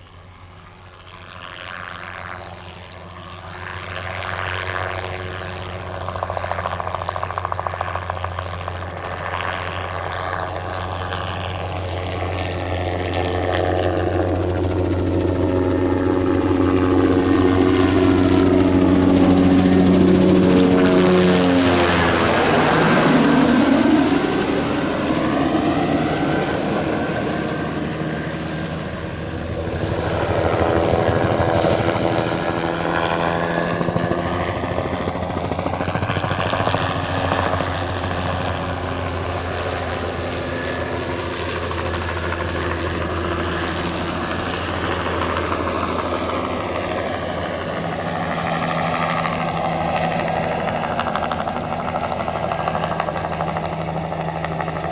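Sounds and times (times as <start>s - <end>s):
helicopter rotor and turbine: 0.0s - 54.9s.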